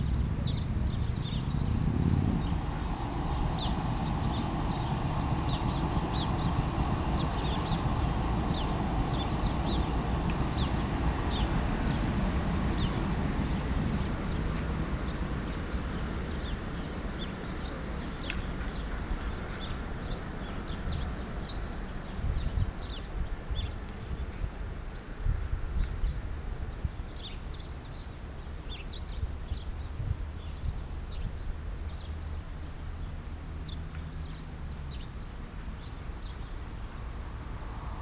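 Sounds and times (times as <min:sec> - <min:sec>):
small birds chirping: 0:00.0 - 0:25.1, 0:25.8 - 0:37.8
steady low rumble: 0:00.0 - 0:38.0.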